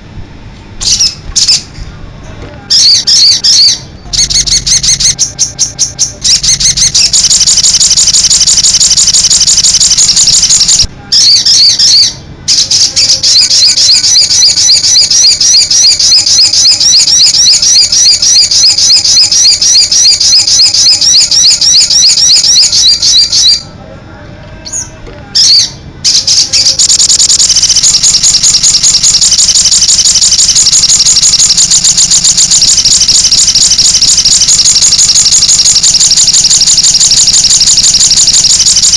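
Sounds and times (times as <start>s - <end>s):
bird singing high-pitched phrases: 0.8s - 1.8s, 2.7s - 23.8s, 24.6s - 38.9s.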